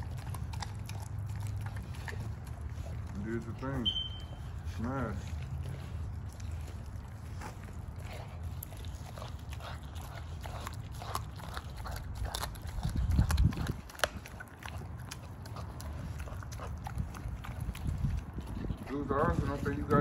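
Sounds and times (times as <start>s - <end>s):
dog chewing and crunching: 0.0s - 20.0s.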